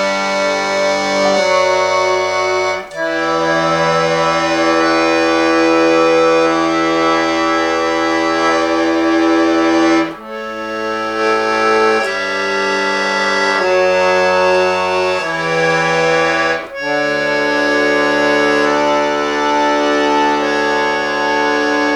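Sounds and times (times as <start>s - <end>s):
button accordion playing chords: 0.0s - 21.9s.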